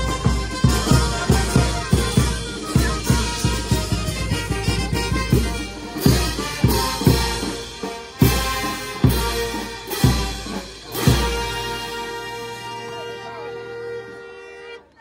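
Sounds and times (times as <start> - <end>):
bass drum and cymbal strikes: 0.0 - 12.8
brass band playing: 0.0 - 15.0.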